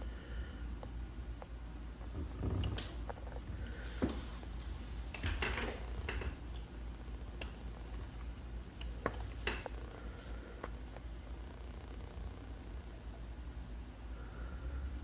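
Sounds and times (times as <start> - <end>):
low equipment hum: 0.0 - 15.0.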